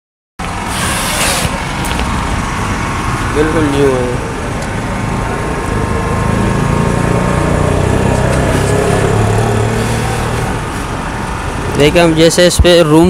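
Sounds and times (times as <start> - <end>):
engine humming: 0.4 - 12.5
street noise: 0.4 - 13.0.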